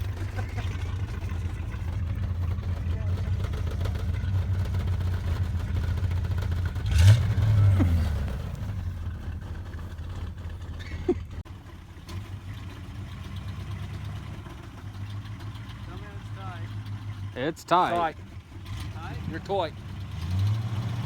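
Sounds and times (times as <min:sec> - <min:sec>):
truck engine revving: 0:00.0 - 0:11.4, 0:12.1 - 0:21.0.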